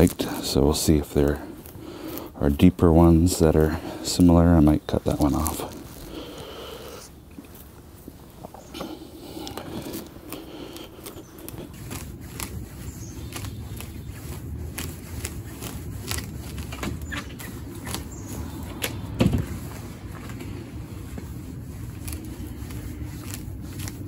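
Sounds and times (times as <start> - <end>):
rake scratching through roots: 0.0 - 7.7, 8.6 - 24.0.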